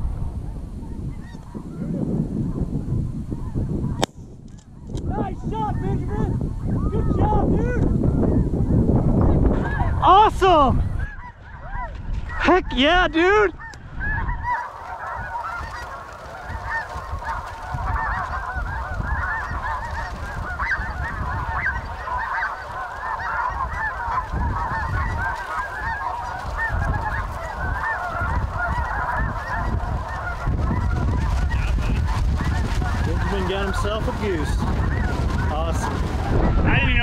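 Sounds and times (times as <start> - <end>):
geese honking: 0.3 - 4.1, 4.8 - 37.0.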